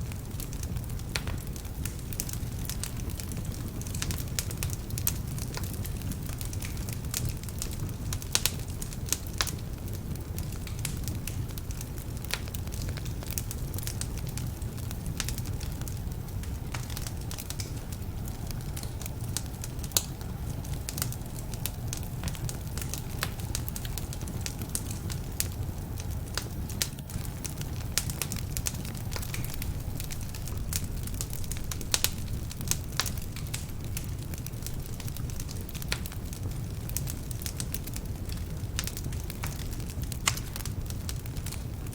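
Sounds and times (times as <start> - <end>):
logs crackling and popping: 0.0 - 41.9
low rumble of flames: 0.0 - 41.9.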